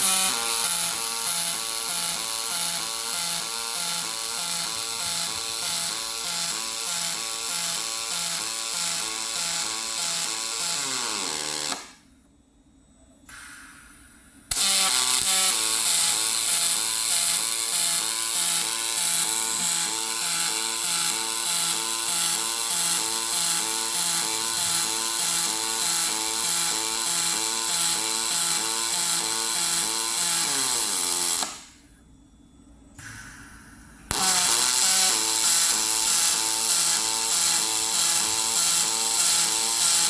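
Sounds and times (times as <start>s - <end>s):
welding arc crackling hiss: 0.0s - 12.0s, 13.3s - 31.8s, 33.0s - 40.0s.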